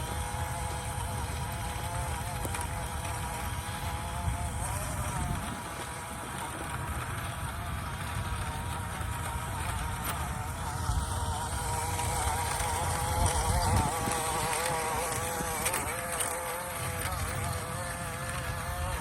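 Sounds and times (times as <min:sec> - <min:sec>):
electric motor and gearbox whining: 0:00.0 - 0:19.0.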